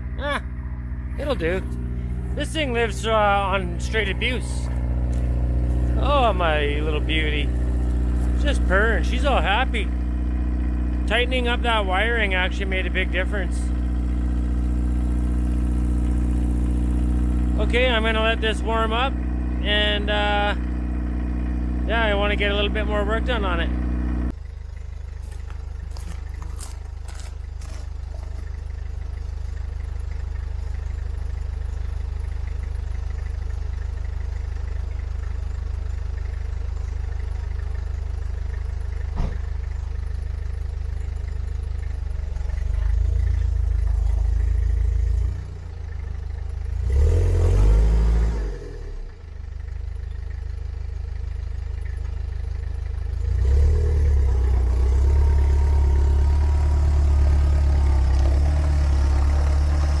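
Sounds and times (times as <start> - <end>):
van engine idling: 0.0 - 60.0.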